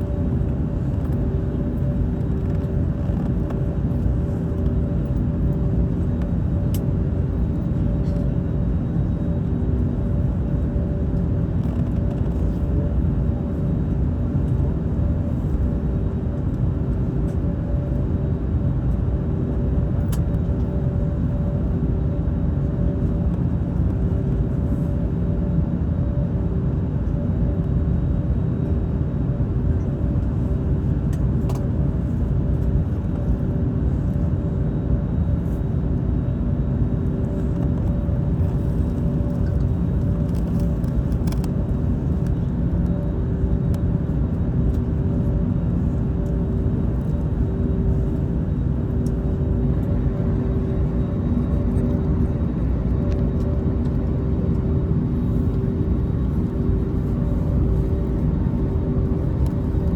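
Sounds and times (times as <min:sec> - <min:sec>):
steady humming tones: 0:00.0 - 0:26.4, 0:29.2 - 0:59.9
aircraft cabin rumble: 0:00.0 - 0:59.9.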